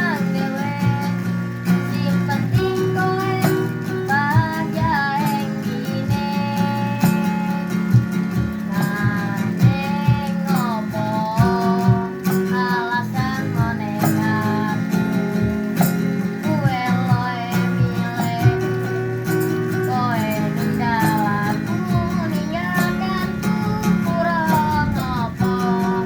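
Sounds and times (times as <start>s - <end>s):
child singing: 0.0s - 15.6s, 16.3s - 26.0s
strummed stringed instrument: 0.0s - 26.0s.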